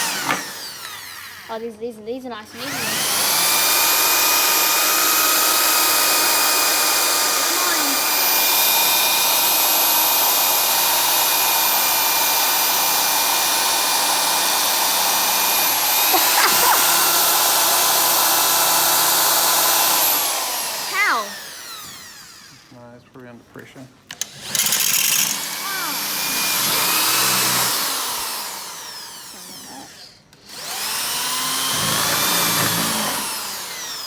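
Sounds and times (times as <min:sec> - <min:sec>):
power drill whining: 0:00.0 - 0:01.6, 0:02.5 - 0:22.7, 0:24.1 - 0:34.0.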